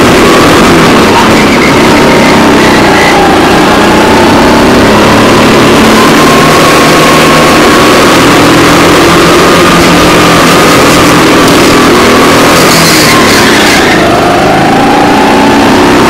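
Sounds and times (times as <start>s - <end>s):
go-kart engine running: 0.0s - 16.0s
wind and road noise: 0.0s - 16.0s.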